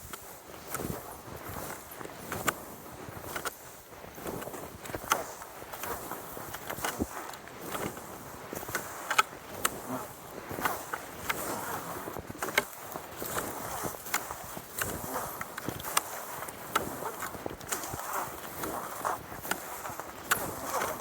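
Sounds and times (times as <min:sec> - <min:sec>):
crunchy clicks: 0:00.0 - 0:02.6, 0:04.2 - 0:21.0
skis swishing over snow: 0:00.0 - 0:21.0.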